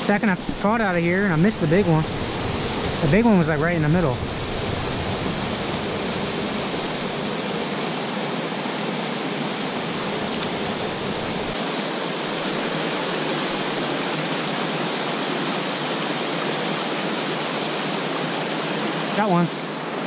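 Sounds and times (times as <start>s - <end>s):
waterfall splashing water: 0.0s - 20.0s.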